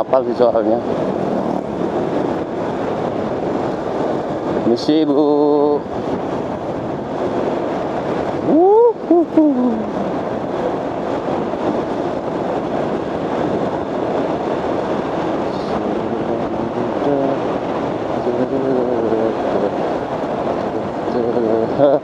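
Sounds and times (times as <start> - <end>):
wind and road rush: 0.0 - 22.0.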